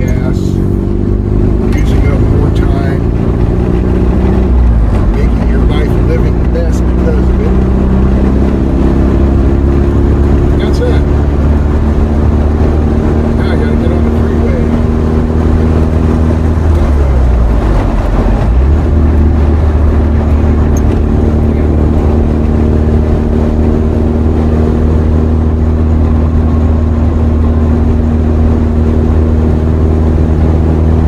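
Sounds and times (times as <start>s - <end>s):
road noise: 0.0s - 31.0s
vehicle engine drone: 0.0s - 31.0s.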